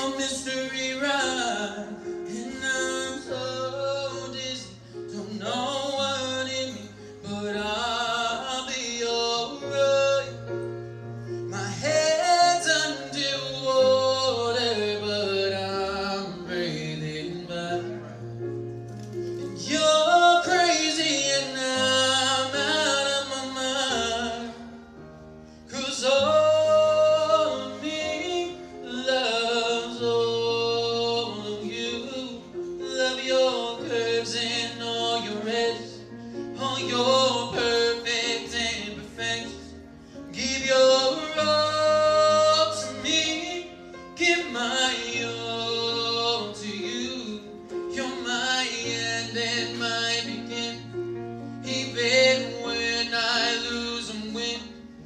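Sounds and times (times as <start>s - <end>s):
man singing into microphone: 0.0s - 18.4s, 19.4s - 24.8s, 25.7s - 55.0s.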